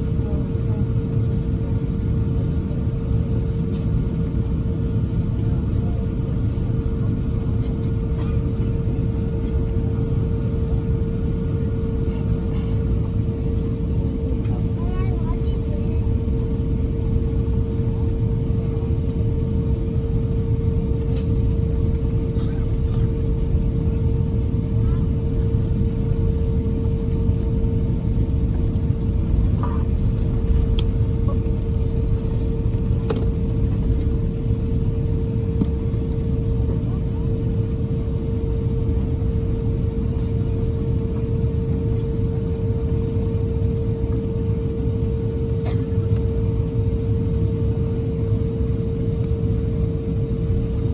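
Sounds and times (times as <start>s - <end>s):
airliner cabin low rumble: 0.0s - 50.9s.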